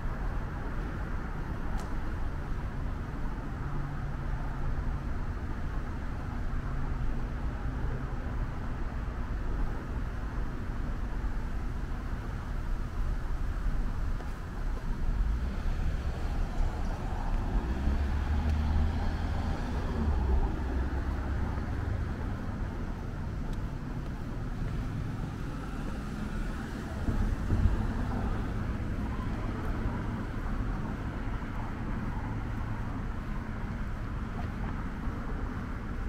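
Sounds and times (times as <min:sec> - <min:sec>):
cars passing: 0:00.0 - 0:36.0
traffic hum: 0:00.0 - 0:36.0.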